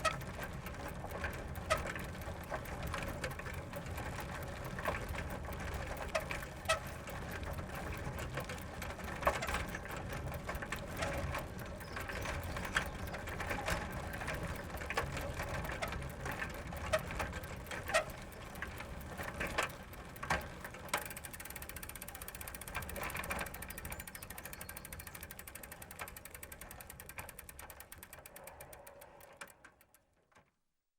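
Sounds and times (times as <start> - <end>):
freewheel ratchet ticking: 0.0 - 30.0
bicycle chain rattling: 0.0 - 30.1.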